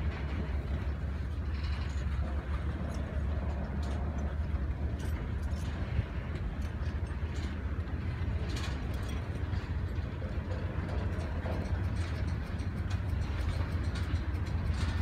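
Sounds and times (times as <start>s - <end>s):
freight train wheels rumbling: 0.0s - 15.0s
train cars clicking and clanking: 0.0s - 15.0s.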